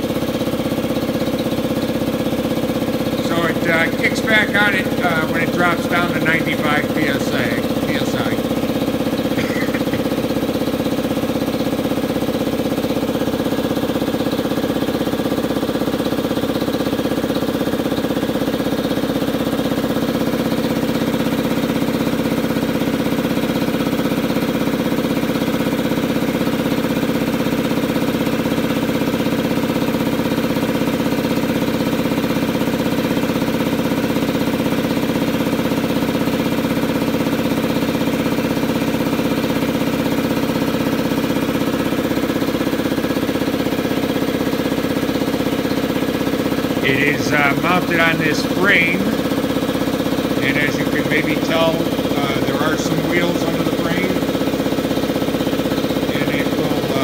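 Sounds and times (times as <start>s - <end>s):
piston air compressor running: 0.0s - 57.0s.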